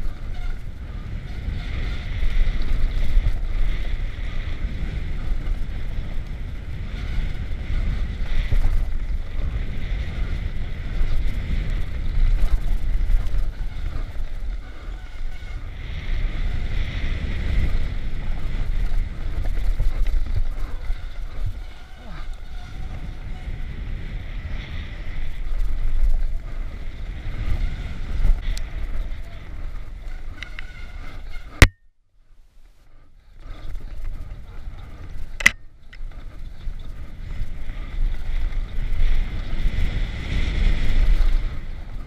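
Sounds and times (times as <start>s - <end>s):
wind buffeting microphone: 0.0s - 31.8s, 32.8s - 42.0s
mountain bike rumbling and rattling: 0.0s - 42.0s.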